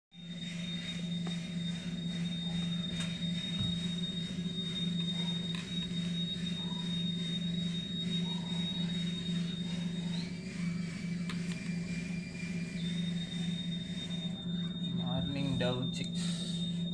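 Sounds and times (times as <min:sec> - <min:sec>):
high-pitched whine: 0:00.1 - 0:16.9
low hum: 0:00.1 - 0:16.9.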